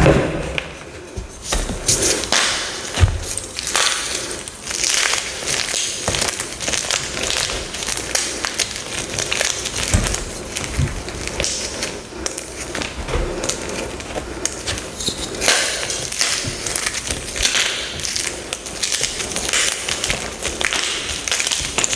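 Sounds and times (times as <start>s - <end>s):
chalk blocks being crushed: 1.4s - 21.9s.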